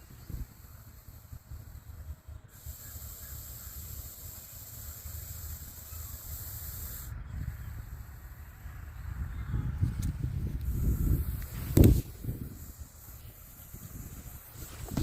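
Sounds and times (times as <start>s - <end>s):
snake hissing: 0.0s - 9.1s, 10.6s - 15.0s.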